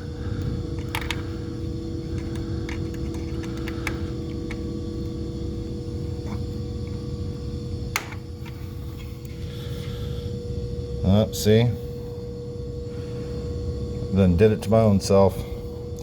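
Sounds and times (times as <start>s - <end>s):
refrigeration compressor humming: 0.0s - 16.0s.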